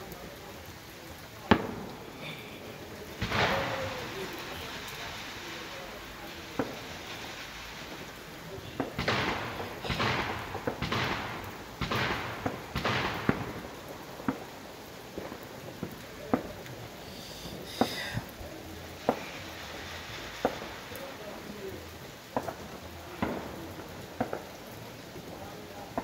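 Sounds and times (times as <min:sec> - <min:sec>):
hissing crackling firework bursts: 0:00.0 - 0:26.0
fireworks bangs: 0:01.3 - 0:26.0.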